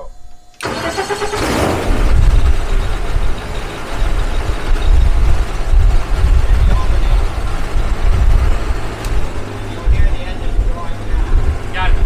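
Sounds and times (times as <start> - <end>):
aircraft engine starting: 0.0 - 12.0
engine idling rumble: 0.0 - 12.0.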